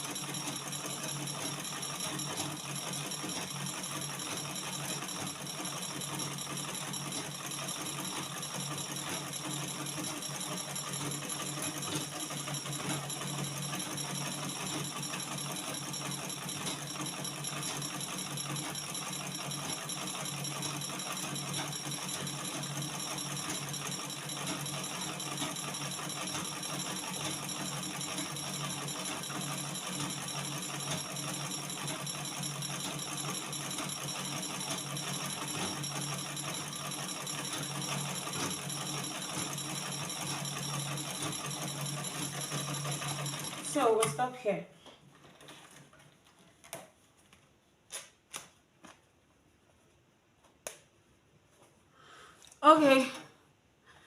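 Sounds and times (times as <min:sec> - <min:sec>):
sewing machine rattling: 0:00.0 - 0:44.3.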